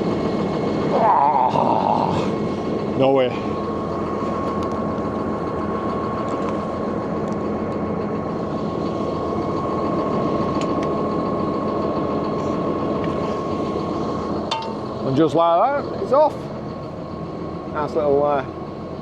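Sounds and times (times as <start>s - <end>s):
constant whine: 0.0s - 19.0s
tractor engine idling: 0.0s - 19.0s.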